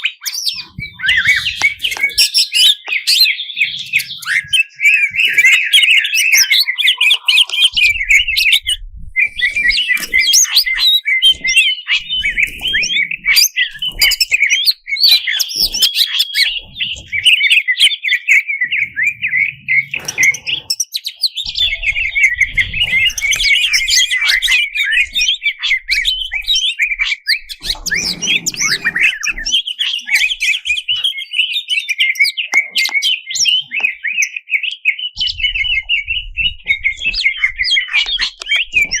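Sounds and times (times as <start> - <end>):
bird singing chirps and trills: 0.0 - 39.0.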